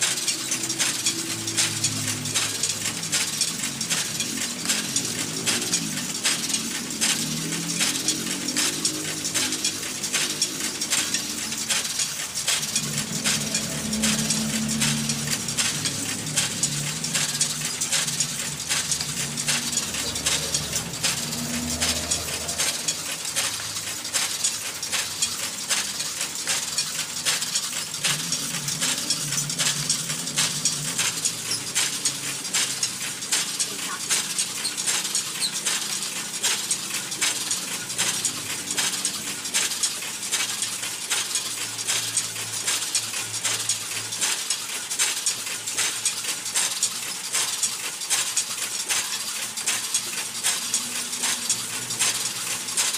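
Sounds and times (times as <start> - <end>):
machine metallic clicking and clatter: 0.0 - 52.9.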